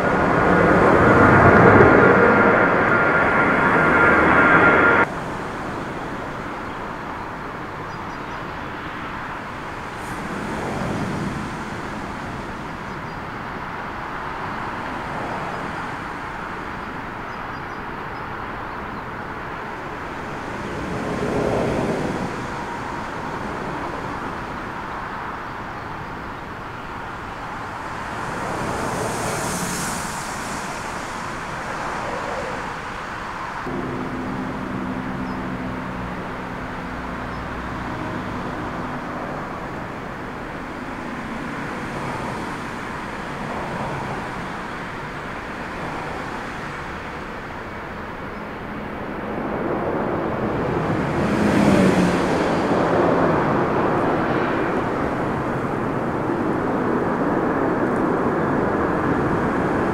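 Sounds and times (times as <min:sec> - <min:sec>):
gusty wind: 0:00.0 - 0:59.9
jet engines at takeoff: 0:00.0 - 0:59.9.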